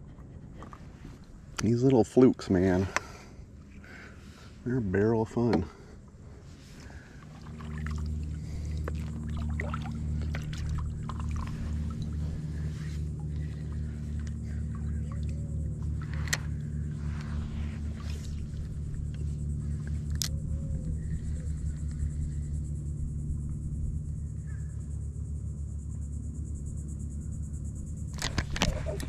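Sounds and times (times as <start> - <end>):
low mechanical drone: 0.0 - 29.0.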